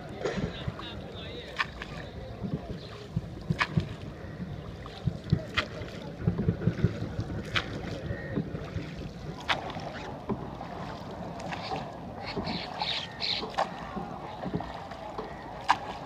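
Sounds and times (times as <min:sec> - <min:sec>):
water sloshing: 0:00.0 - 0:16.0
wind buffeting microphone: 0:00.0 - 0:16.0
oar knocking: 0:01.6 - 0:16.0.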